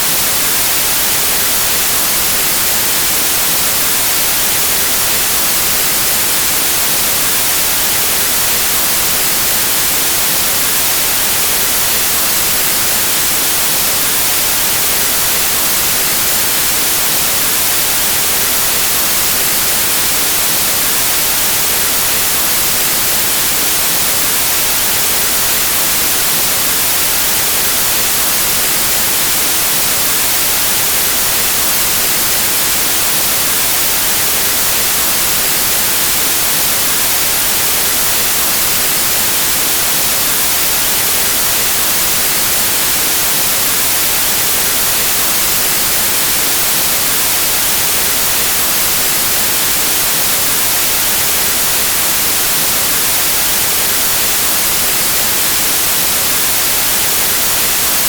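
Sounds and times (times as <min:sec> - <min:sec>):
white noise static: 0:00.0 - 0:58.0.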